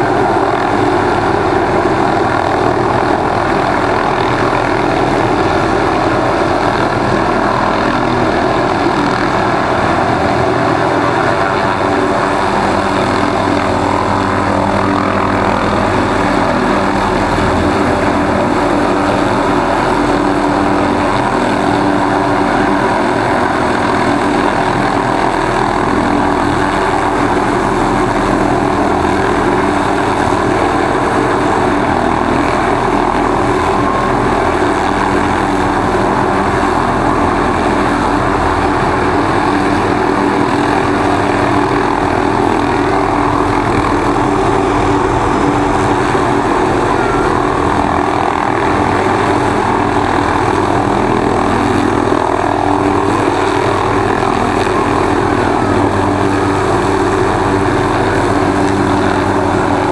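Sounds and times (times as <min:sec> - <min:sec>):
helicopter hovering: 0:00.0 - 0:59.9.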